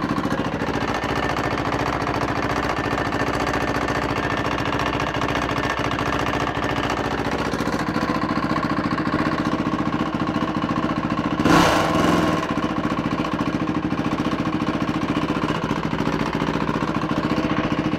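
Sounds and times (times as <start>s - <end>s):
engine knocking: 0.0s - 17.9s
motorcycle engine idling: 0.0s - 17.9s.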